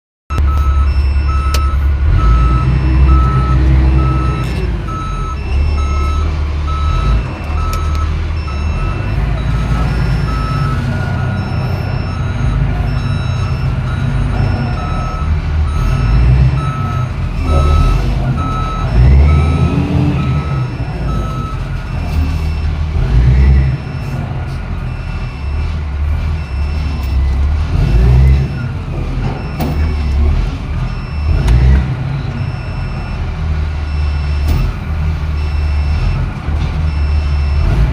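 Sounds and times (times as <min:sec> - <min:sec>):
diesel engine rumble: 0:00.3 - 0:37.9
reversing alarm beeping: 0:00.3 - 0:37.9.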